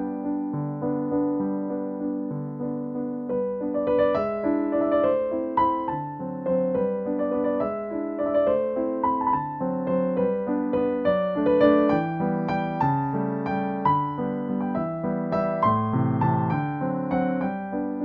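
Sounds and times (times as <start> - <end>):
piano-like keyboard music: 0.0 - 18.0.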